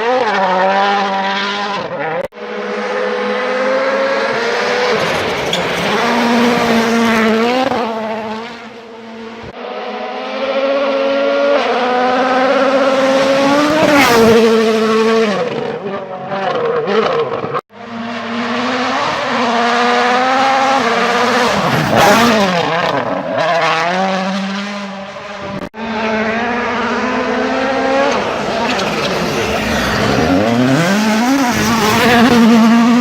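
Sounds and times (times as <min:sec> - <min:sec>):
rally car engines revving: 0:00.0 - 0:33.0.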